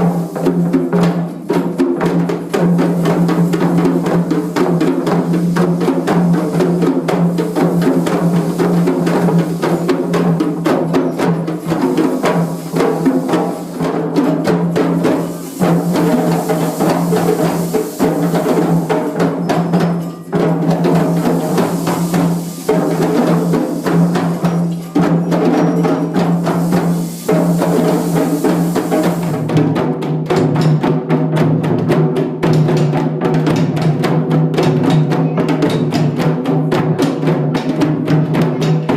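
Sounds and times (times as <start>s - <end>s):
group drumming: 0.0s - 38.9s.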